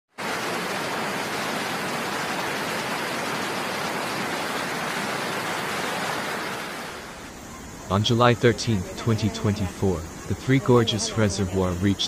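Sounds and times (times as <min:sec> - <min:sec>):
water rushing from floodgates: 0:00.1 - 0:12.0.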